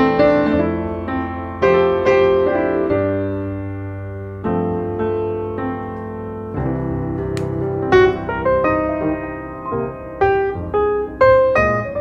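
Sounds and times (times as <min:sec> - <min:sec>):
gentle piano chords: 0:00.0 - 0:12.0.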